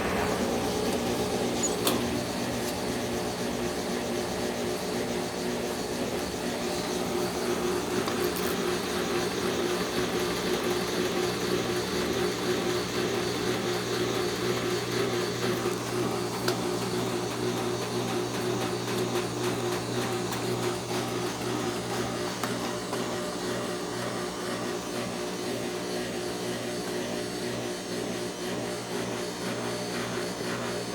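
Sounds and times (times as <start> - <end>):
washing machine spinning: 0.0 - 30.9.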